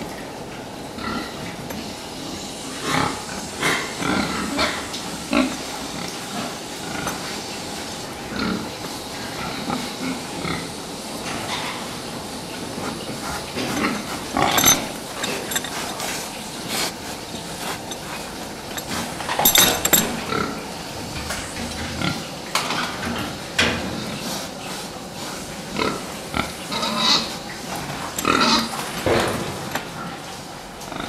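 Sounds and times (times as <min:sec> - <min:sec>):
pigs calling and shuffling: 0:00.0 - 0:31.0.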